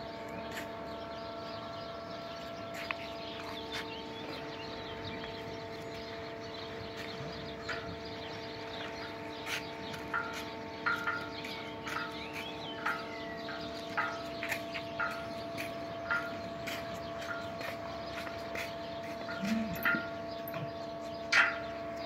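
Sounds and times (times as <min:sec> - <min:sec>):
crane motor humming: 0:00.0 - 0:22.0.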